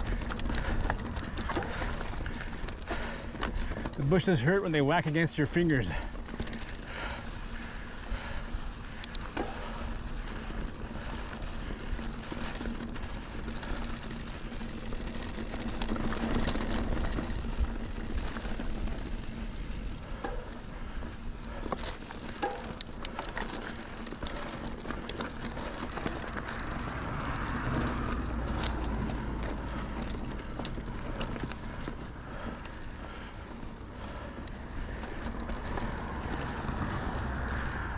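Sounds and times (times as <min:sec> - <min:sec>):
bike clicks and rattles: 0:00.0 - 0:37.9
bike tyres on dirt trail: 0:00.0 - 0:37.9.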